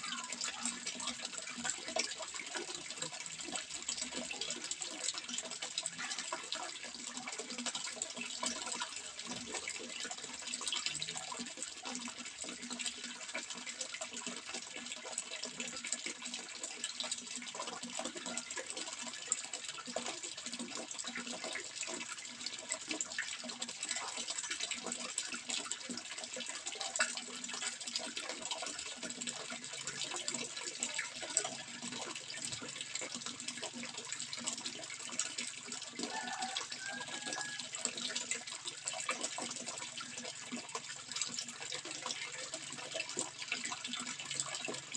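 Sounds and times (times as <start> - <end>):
water running and splashing: 0.0 - 44.9.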